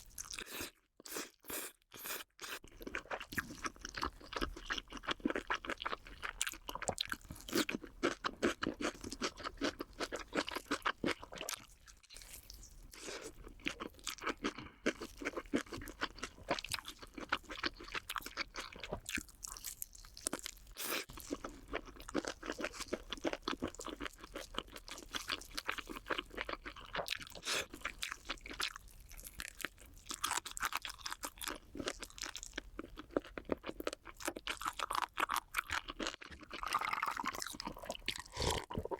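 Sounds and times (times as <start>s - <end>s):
chewing crunchy snacks: 0.0s - 38.9s.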